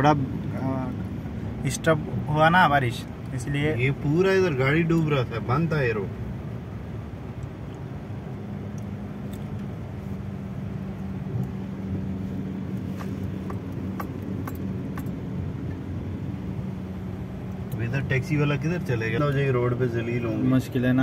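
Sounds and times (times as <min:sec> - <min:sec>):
car engine hum: 0:00.0 - 0:21.0.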